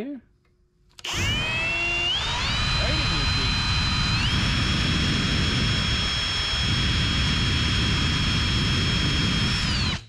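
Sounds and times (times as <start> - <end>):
drill bit grinding metal: 1.0 - 10.0
power drill whining: 1.0 - 10.0.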